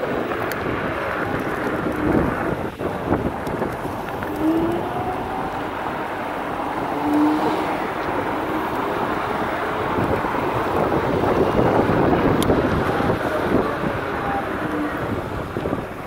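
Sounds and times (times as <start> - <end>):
road noise: 0.0 - 16.0
wind on microphone: 0.0 - 16.0.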